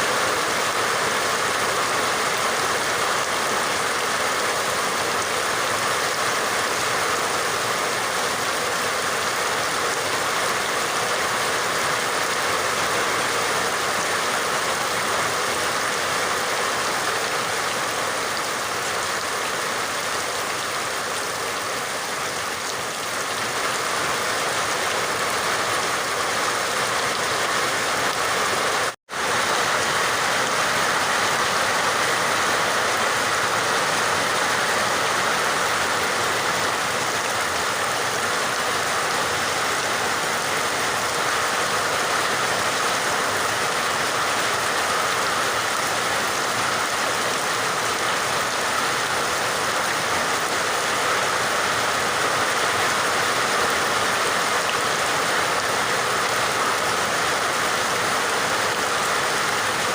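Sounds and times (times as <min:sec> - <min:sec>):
dense rain hissing: 0:00.0 - 0:59.9.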